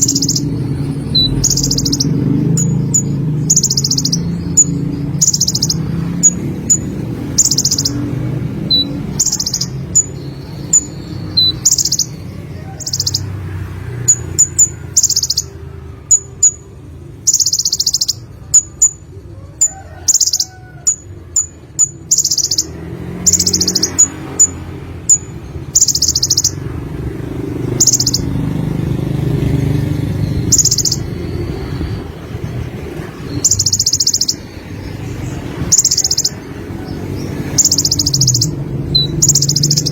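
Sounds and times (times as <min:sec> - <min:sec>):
sharp bird tick notes: 0:00.0 - 0:13.4, 0:14.0 - 0:19.0, 0:20.1 - 0:34.6, 0:35.4 - 0:36.5, 0:37.2 - 0:39.9
bird twittering song: 0:00.0 - 0:39.9.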